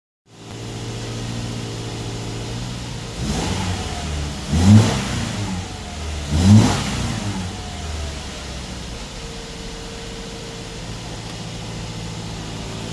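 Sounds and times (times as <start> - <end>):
car engine idling and revving: 0.3 - 12.9.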